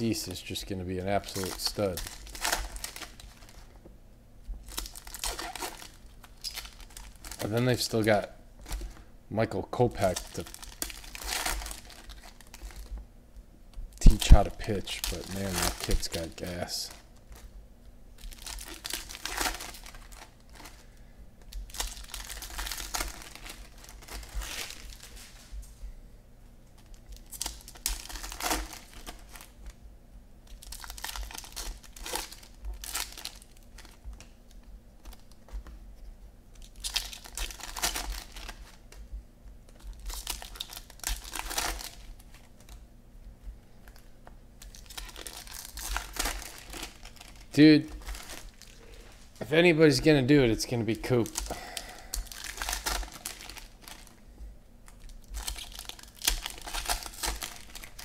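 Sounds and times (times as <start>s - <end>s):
foil wrappers crinkling and tearing: 0.0s - 3.7s, 4.6s - 9.1s, 9.7s - 12.9s, 13.9s - 17.5s, 18.2s - 25.5s, 26.7s - 29.7s, 30.4s - 35.8s, 36.5s - 39.1s, 39.7s - 42.8s, 43.8s - 49.4s, 50.6s - 54.2s, 54.8s - 58.0s.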